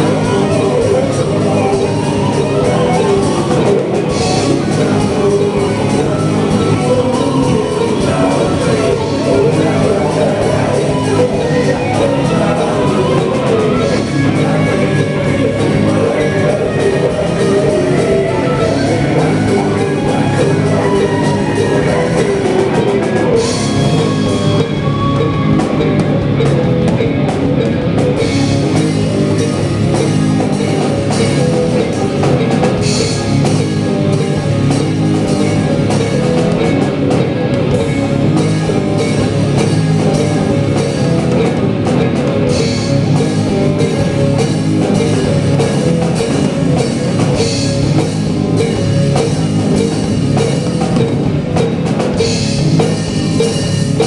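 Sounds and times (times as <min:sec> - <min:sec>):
acoustic drum kit: 0:00.0 - 0:54.0
rock song with guitar: 0:00.0 - 0:54.0.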